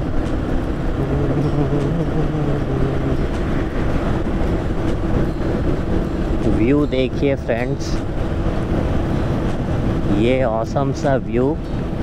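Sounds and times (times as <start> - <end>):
motorcycle engine hum: 0.0 - 12.0
road and wind noise: 0.0 - 12.0.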